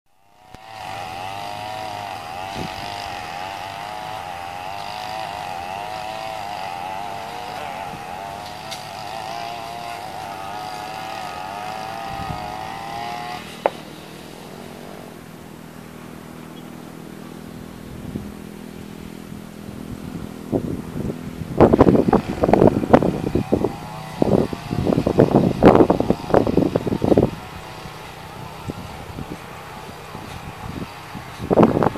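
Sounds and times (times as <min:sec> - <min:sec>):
small engine running: 0:00.1 - 0:31.9.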